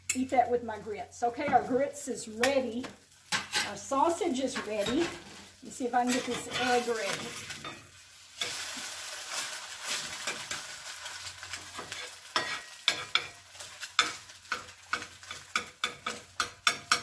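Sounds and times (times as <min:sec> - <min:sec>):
egg sizzling in a skillet: 0:01.6 - 0:17.0
metal spatula scraping a pan: 0:03.3 - 0:17.0.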